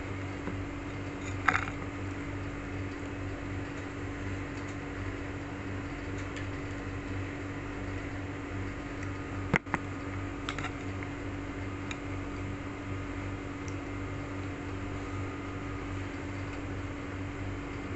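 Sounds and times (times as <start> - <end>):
motor hum: 0.0 - 17.9.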